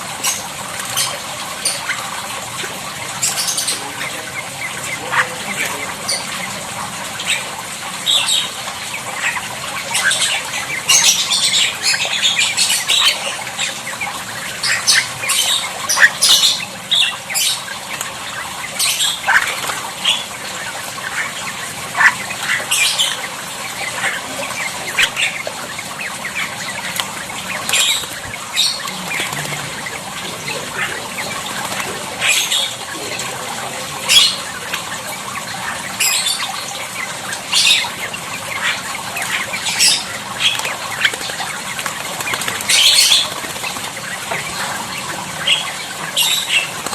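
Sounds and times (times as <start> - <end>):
starlings squawking and chattering: 0.0 - 46.9.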